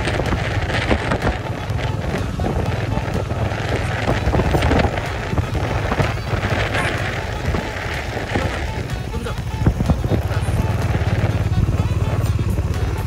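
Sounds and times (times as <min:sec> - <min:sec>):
tyres crackling over gravel: 0:00.0 - 0:12.7
motorcycle engine running: 0:00.0 - 0:13.0.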